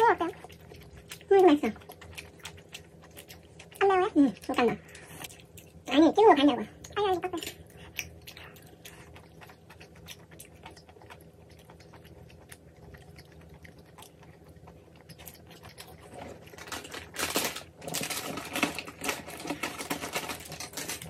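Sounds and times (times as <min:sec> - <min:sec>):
wet chewing mouth sounds: 0:00.0 - 0:06.0, 0:06.6 - 0:18.1.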